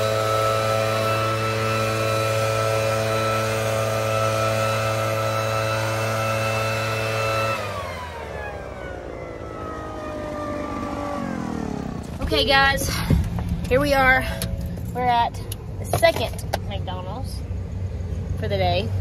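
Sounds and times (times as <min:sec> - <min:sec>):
leaf blower running: 0:00.0 - 0:15.6.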